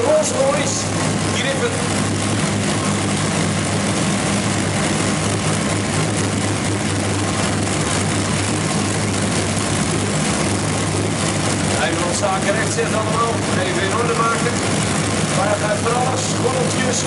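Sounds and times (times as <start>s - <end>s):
aero engines idling: 0.0s - 17.0s.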